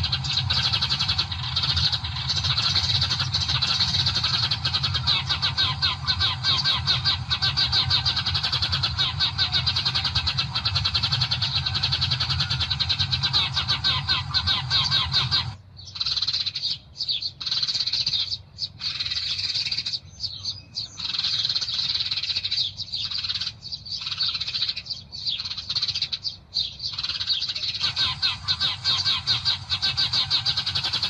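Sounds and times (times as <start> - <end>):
small songbirds chirping: 0.0 - 31.0.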